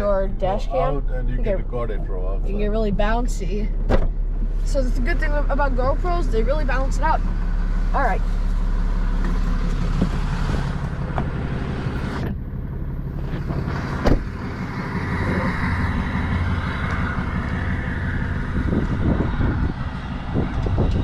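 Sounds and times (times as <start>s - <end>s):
truck engine humming: 0.0s - 21.0s.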